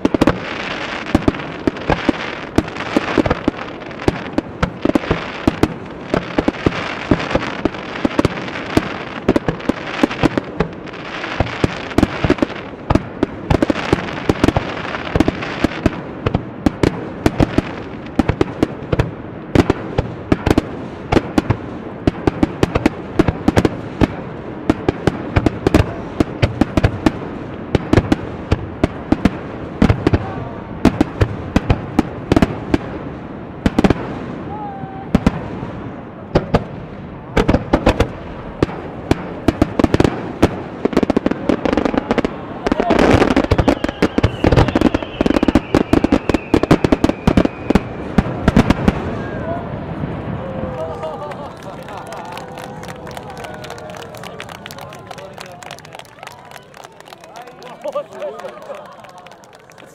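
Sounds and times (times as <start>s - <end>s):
crackling hiss of fireworks: 0.0s - 59.9s.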